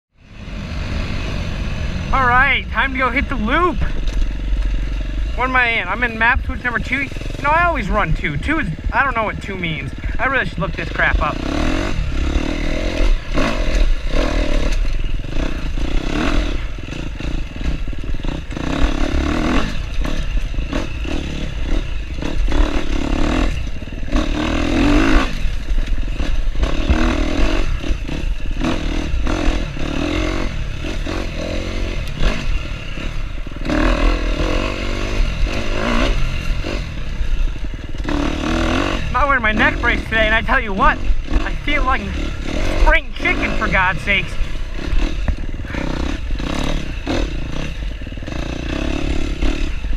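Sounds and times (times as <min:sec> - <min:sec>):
dirt bike engine revving: 0:00.2 - 0:49.9
bike clattering and scraping: 0:00.4 - 0:49.9.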